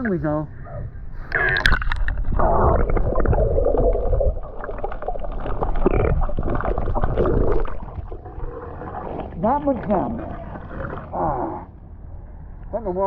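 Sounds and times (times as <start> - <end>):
underwater clicks and gurgles: 1.2 - 11.7
underwater rumbling and bubbling: 1.2 - 12.2.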